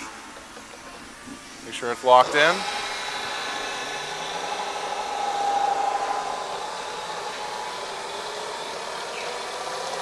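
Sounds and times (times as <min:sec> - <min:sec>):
milling machine whirring: 0:00.0 - 0:10.0.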